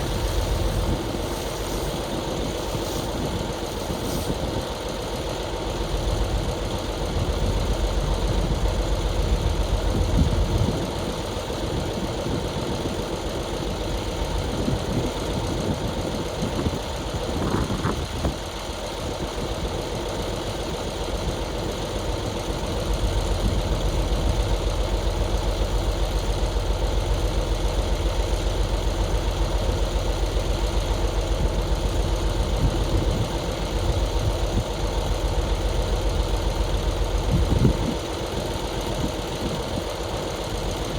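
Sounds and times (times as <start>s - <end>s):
heavy equipment engine running: 0.0s - 40.9s.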